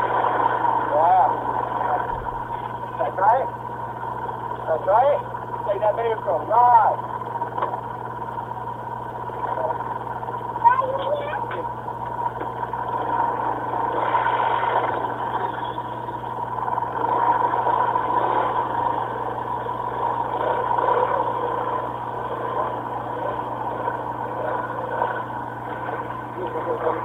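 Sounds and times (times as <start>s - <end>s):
go-kart engine running: 0.0s - 27.0s.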